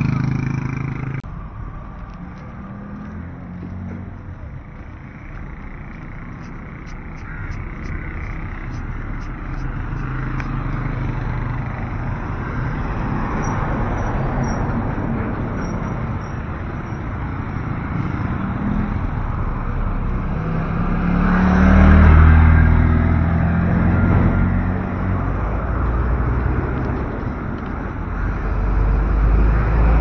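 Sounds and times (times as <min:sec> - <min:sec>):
motorcycle engine: 0:00.0 - 0:29.3
road traffic passing: 0:00.0 - 0:30.0.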